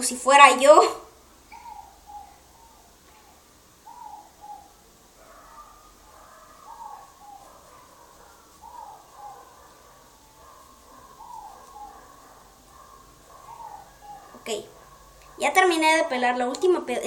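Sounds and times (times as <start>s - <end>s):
faint bird call: 1.5s - 15.4s
bird cooing: 1.5s - 16.2s.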